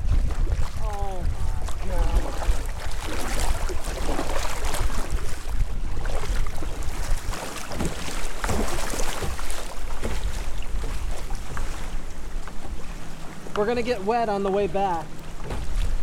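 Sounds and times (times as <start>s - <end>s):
paddle splashing: 0.0s - 16.0s
water washing along hull: 0.0s - 16.0s
wind rumbling on microphone: 0.0s - 16.0s.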